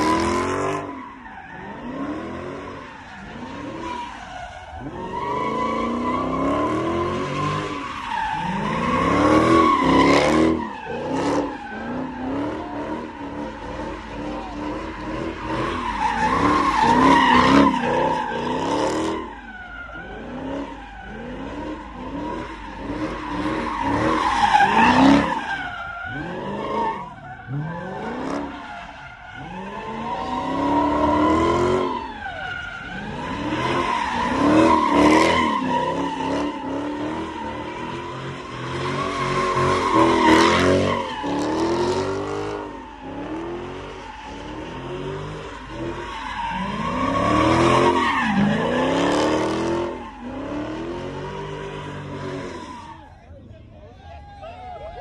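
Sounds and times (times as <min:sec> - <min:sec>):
car engine revving: 0:00.0 - 0:53.0
tires screeching: 0:00.0 - 0:55.0.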